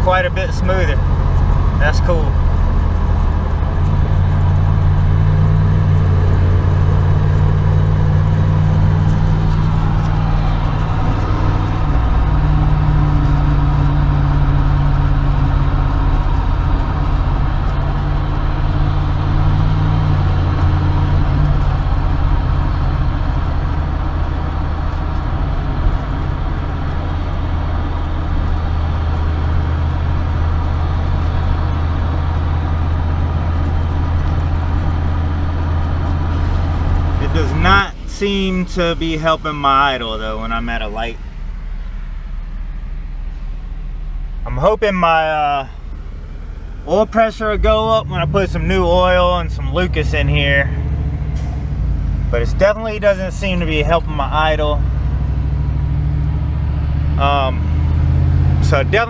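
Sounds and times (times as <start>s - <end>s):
engine drone: 0.0s - 59.0s
road noise: 0.0s - 59.0s.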